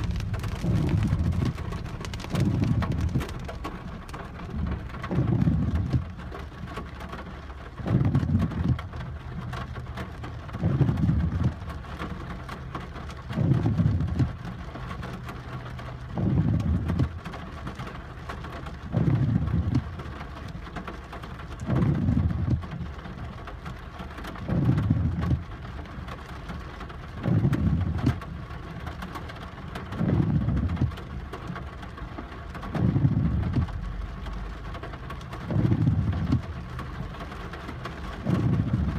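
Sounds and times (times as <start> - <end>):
heavy rain on car: 0.0 - 38.9
windshield wipers swishing: 0.0 - 38.9.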